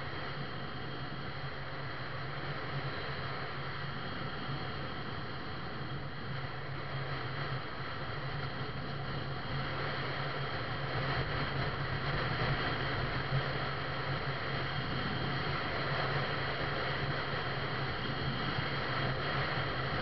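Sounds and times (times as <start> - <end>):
road and wind noise: 0.0 - 20.0
vehicle engine hum: 0.0 - 20.0.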